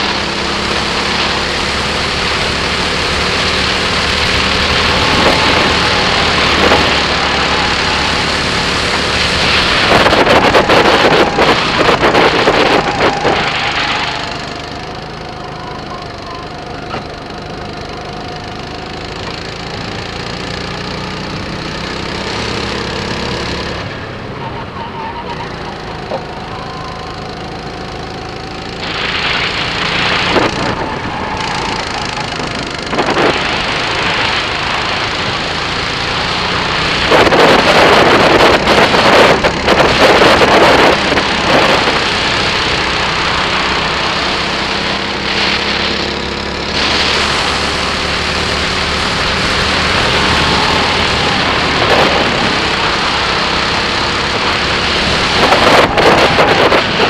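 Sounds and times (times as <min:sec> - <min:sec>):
kart engine running: 0:00.0 - 0:57.0.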